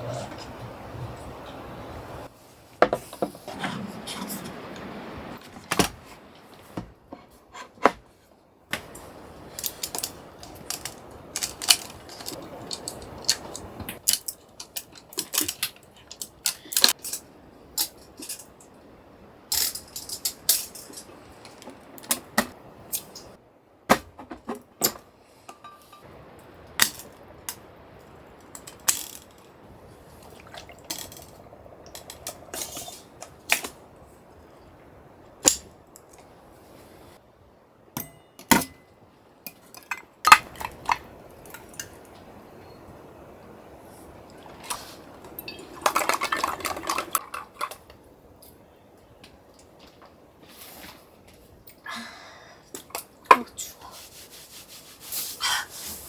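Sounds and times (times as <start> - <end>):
faint background hiss: 0.0 - 56.0.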